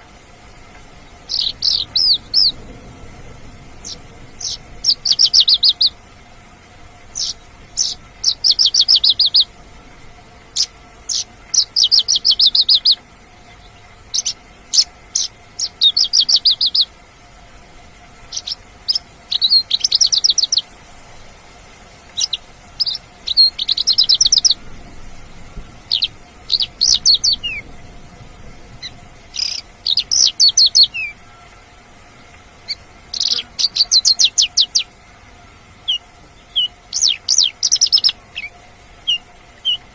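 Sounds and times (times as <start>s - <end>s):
lark singing rattling notes: 0.0s - 39.9s.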